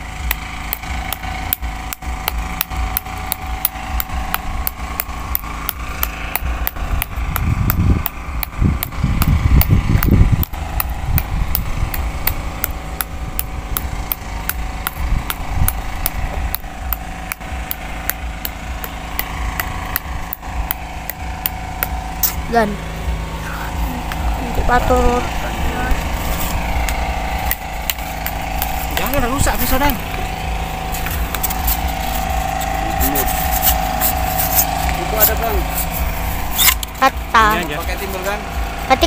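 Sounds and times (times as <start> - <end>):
low rumbling: 0.0 - 39.0
mechanical hum: 0.0 - 39.0
regular ticking: 0.0 - 39.0.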